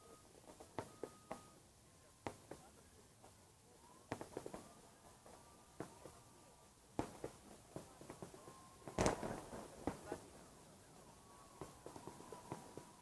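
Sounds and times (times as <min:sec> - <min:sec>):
distant fireworks popping: 0:00.0 - 0:13.0.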